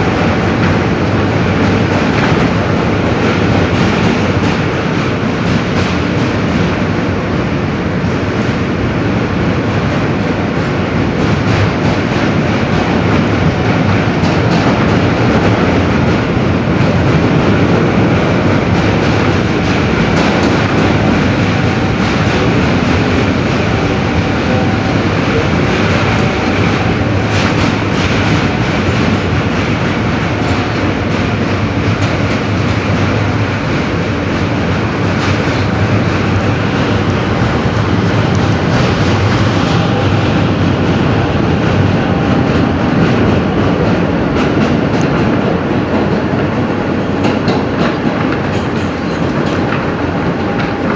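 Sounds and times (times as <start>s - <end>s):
subway wheel and rail rumble: 0.0s - 50.9s
wheels clacking over rail joints: 9.5s - 50.9s.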